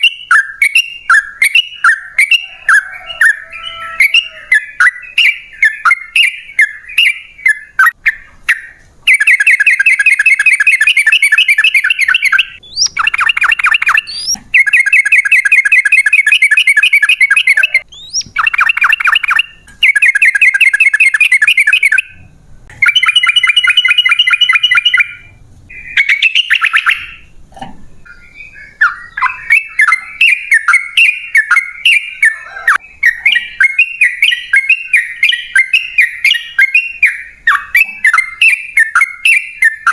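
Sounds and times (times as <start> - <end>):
bird song: 0.0 - 39.9.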